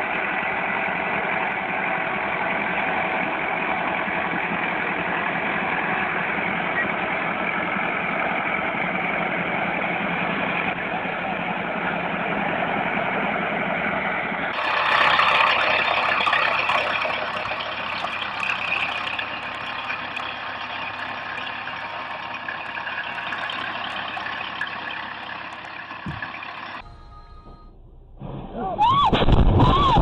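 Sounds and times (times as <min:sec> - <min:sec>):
tractor engine under heavy load: 0:00.0 - 0:29.8.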